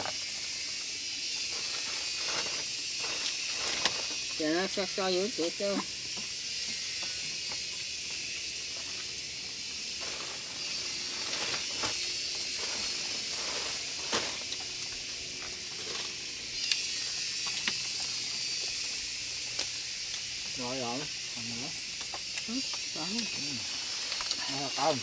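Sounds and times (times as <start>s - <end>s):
high-pitched hiss: 0.0s - 25.0s.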